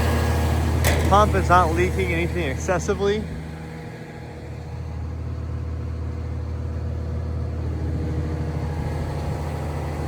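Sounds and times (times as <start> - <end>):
excavator diesel engine idling: 0.0 - 10.0.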